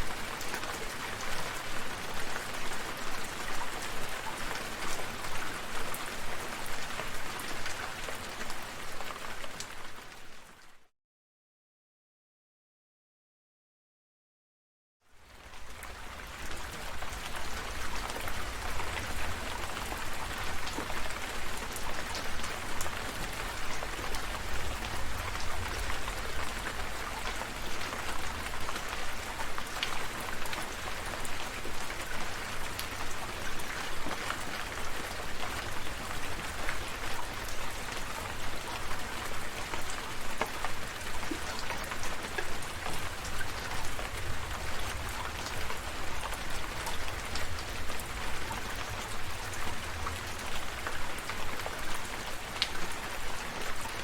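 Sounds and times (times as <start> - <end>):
rain falling: 0.0 - 10.8, 15.1 - 54.0.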